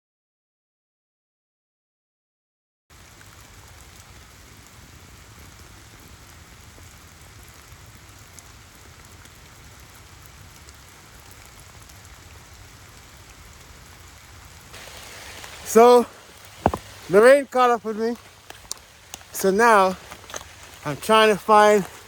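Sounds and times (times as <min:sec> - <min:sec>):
steady rain falling: 0:02.9 - 0:22.0.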